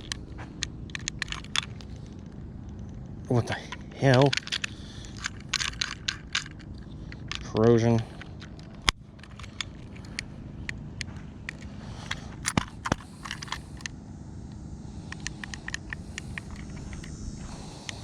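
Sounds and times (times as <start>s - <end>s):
handheld scale clicking: 0.0s - 3.0s, 3.6s - 18.0s.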